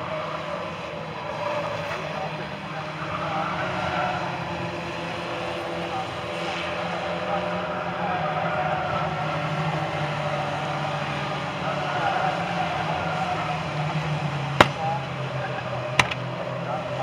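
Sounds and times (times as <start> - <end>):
racing car engines: 0.0 - 17.0.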